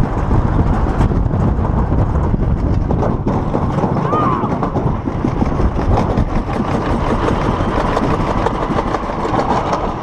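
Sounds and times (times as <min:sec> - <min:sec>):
sled wheels rumbling on metal: 0:00.0 - 0:10.0.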